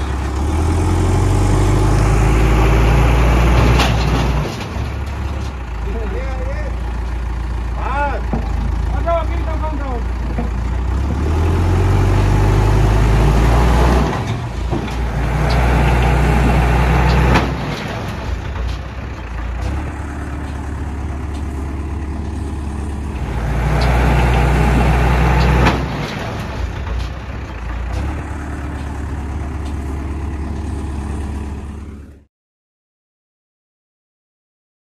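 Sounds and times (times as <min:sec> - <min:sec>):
diesel engine revving: 0:00.0 - 0:32.3.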